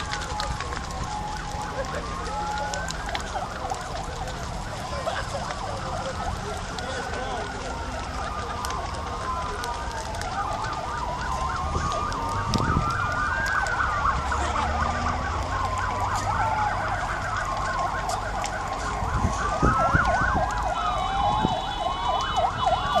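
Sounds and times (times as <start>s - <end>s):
sharp crackles: 0.0s - 23.0s
wailing sirens: 0.0s - 23.0s
yelping sirens: 0.0s - 23.0s.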